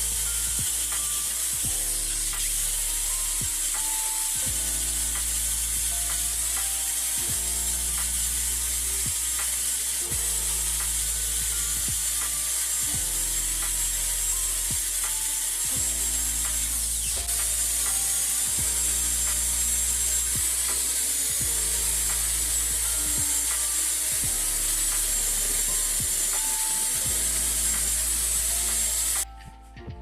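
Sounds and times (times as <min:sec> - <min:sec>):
power tool rasping metal: 0:00.0 - 0:29.3
background music chords: 0:00.0 - 0:30.0.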